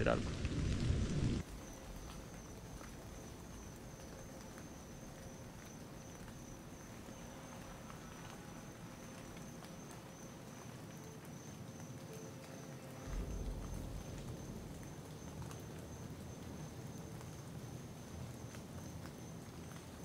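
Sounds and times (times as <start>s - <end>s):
high-pitched insect trill: 1.5s - 19.3s.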